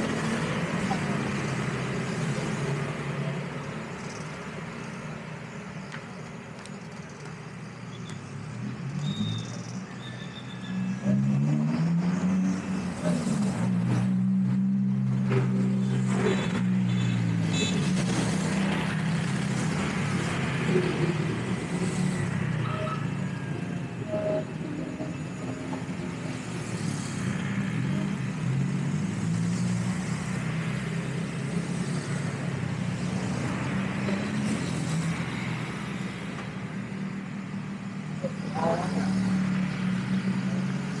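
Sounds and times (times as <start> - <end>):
cars and motorbikes driving past: 0.0 - 41.0.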